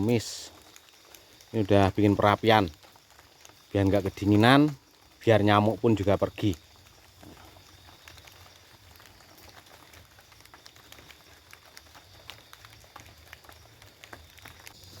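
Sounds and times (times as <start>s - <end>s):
raindrops ticking: 0.0s - 15.0s.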